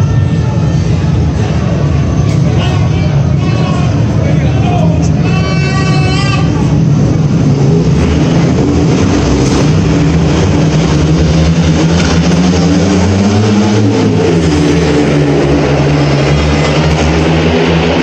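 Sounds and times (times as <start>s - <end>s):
motorcycles racing: 0.0s - 18.0s.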